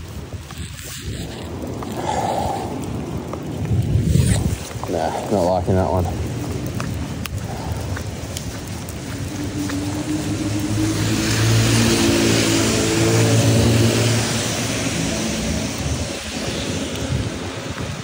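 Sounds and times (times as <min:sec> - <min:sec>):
tyres hissing on wet road: 0:00.0 - 0:18.0.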